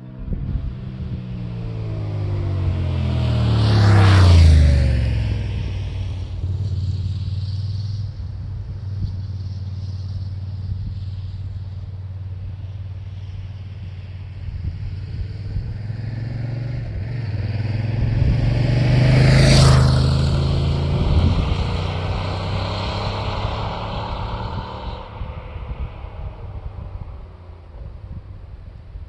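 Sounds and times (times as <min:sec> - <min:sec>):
motorcycle engine passing by: 0:00.0 - 0:11.7, 0:14.4 - 0:29.0.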